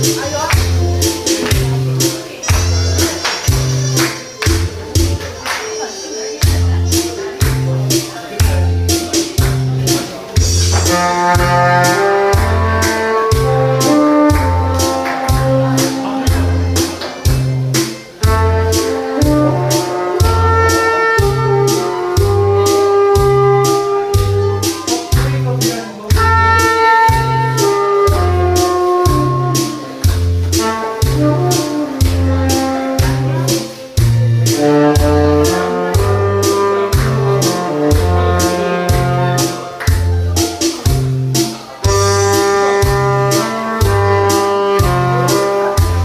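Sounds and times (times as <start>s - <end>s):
drum beat and bass backing track: 0.0s - 46.0s
saxophone melody: 0.0s - 46.0s.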